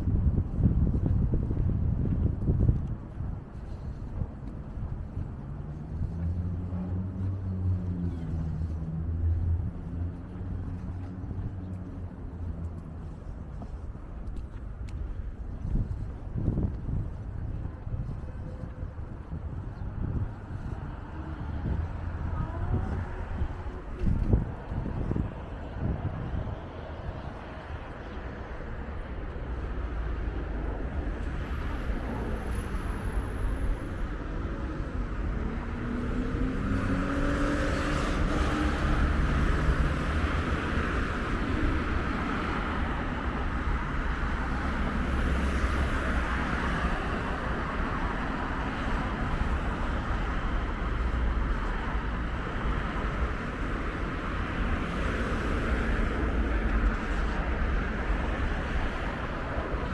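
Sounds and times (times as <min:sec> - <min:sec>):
cars driving past: 0:00.0 - 0:59.9
wind rumble on microphone: 0:00.0 - 0:59.9.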